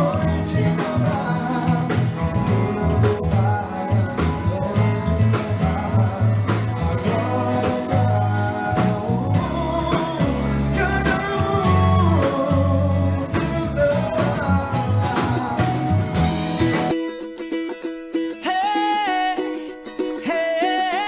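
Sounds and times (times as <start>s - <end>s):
bass and drums: 0.0s - 17.0s
person singing: 0.0s - 17.0s, 18.3s - 21.0s
guitar: 0.0s - 21.0s.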